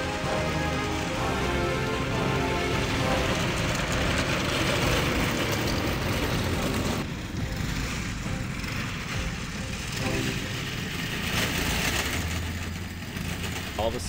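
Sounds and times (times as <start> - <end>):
tank engine running: 0.0 - 14.0.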